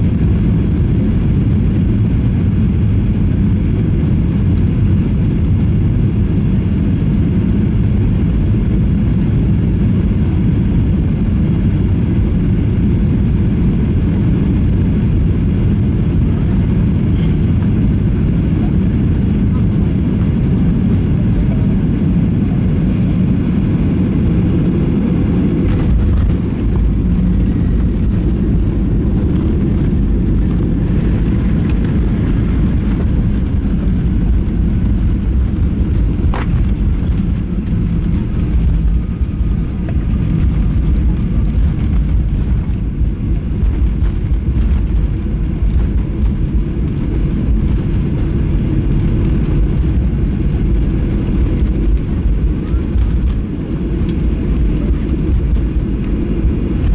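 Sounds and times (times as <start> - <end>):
jet cabin roar: 0.0 - 56.9
wheels rumbling on runway: 0.0 - 56.9.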